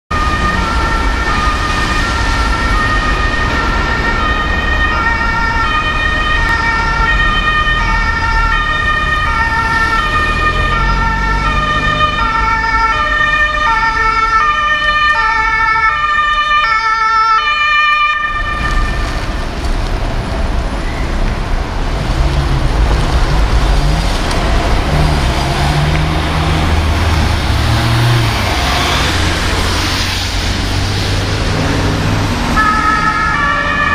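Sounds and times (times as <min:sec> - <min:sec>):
two-tone ambulance siren: 0:00.1 - 0:19.5, 0:25.8 - 0:33.9
engine and traffic noise: 0:00.1 - 0:33.9.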